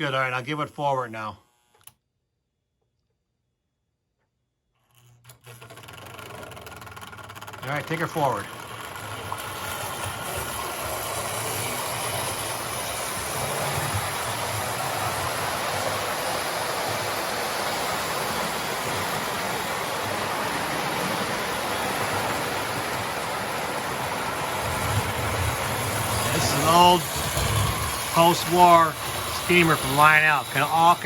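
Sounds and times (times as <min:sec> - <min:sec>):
toy train motor and wheel clatter: 0:04.8 - 0:31.0.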